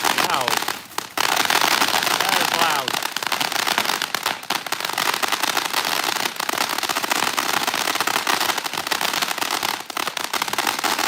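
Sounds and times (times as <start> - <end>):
firework fountain crackling: 0.0 - 11.0.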